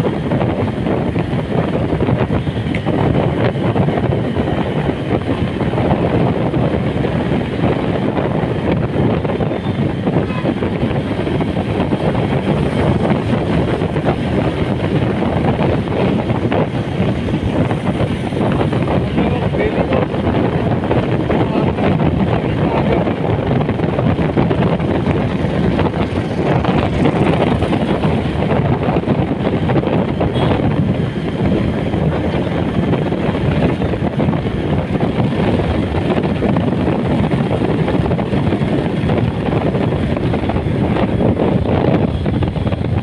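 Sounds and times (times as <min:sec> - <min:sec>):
motorbike engine and tyre noise: 0:00.0 - 0:43.0
wind buffeting microphone: 0:00.0 - 0:43.0.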